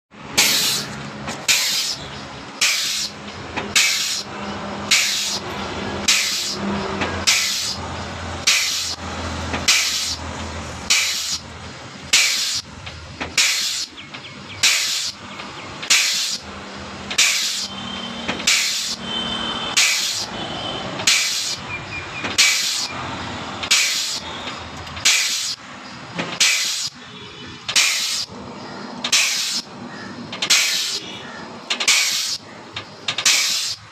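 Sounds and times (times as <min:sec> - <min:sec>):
pneumatic pump puffing exhaust air: 0:00.3 - 0:33.9.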